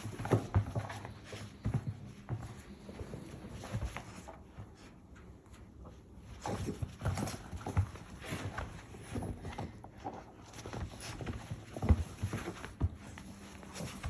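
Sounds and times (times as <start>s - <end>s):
dog paws scrabbling: 0.0s - 14.0s.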